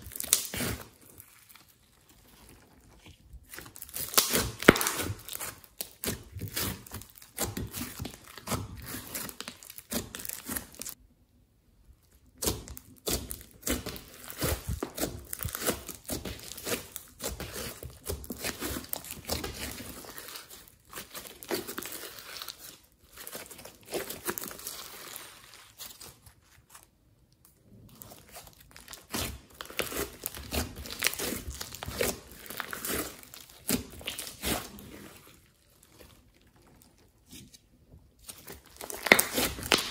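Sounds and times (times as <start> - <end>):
slime crackling and popping: 0.0 - 11.0, 12.1 - 26.2, 27.3 - 37.4, 38.2 - 39.9.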